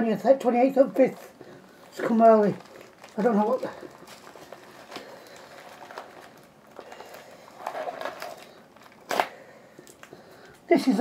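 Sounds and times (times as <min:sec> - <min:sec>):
plastic mailer crinkling: 0:01.0 - 0:10.5.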